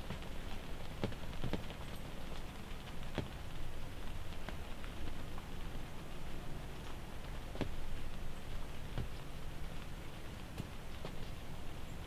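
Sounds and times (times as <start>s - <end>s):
low steady rumble: 0.0s - 12.0s
rain drops pattering: 0.0s - 12.0s.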